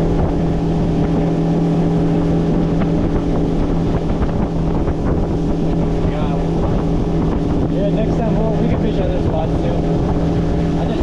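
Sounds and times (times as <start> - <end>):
boat motor humming: 0.0 - 11.0
rushing water: 0.0 - 11.0
wind buffeting microphone: 0.0 - 11.0.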